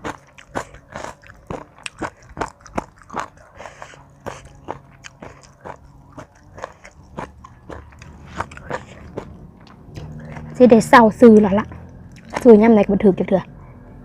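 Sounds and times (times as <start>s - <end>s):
wet chewing with crunches: 0.0s - 13.6s.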